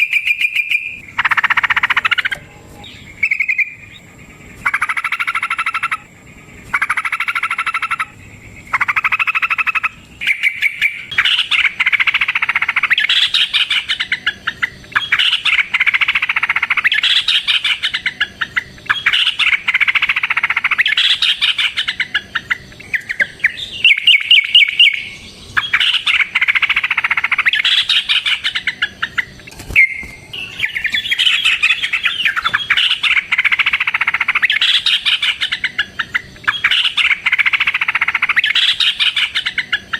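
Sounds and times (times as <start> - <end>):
bulbul song: 0.0 - 39.9.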